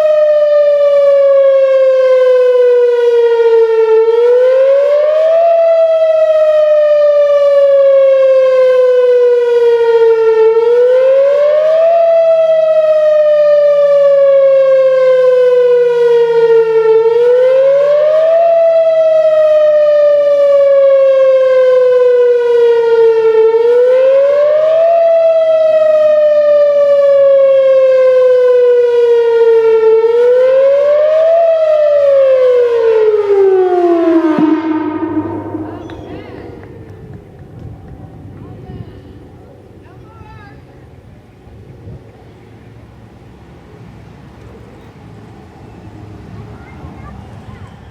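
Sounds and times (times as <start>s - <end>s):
warning siren wailing: 0.0s - 40.0s.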